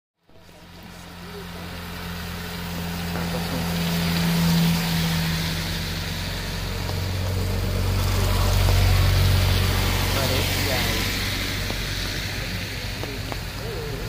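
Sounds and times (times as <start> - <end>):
motorcycle engine: 0.2 - 14.0
tyres hissing on wet road: 0.2 - 14.0
vehicle engine hum: 0.2 - 14.0.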